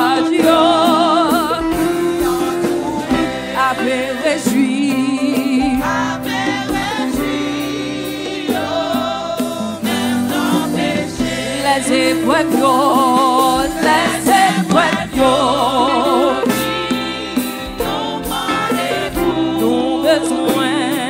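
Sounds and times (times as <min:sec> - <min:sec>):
woman singing into a microphone: 0:00.0 - 0:07.6, 0:09.8 - 0:21.0
instrumental backing: 0:00.0 - 0:21.0.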